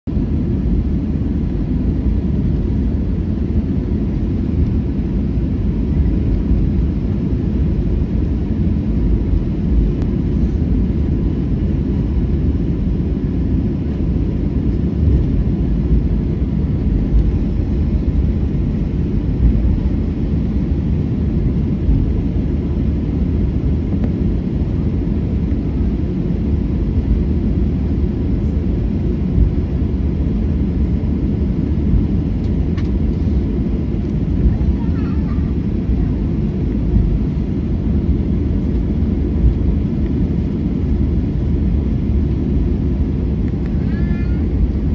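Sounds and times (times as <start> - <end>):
jet engine and wheels rumble: 0.0 - 44.9.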